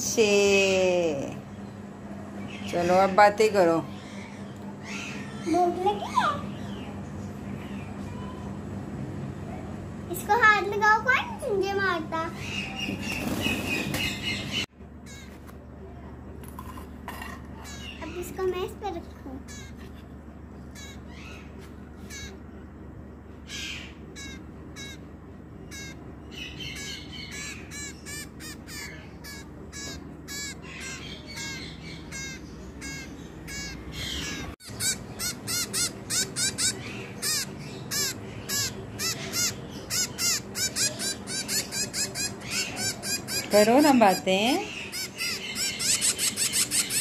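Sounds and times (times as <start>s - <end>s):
baby bird chirping: 2.4s - 8.6s, 10.1s - 15.4s, 17.6s - 22.4s, 23.4s - 25.0s, 25.6s - 47.0s.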